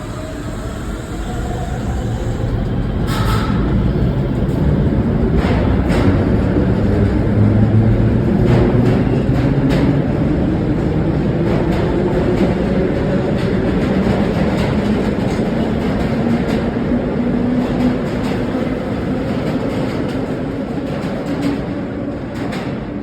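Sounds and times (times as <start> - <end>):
subway train rumble: 0.0 - 23.0.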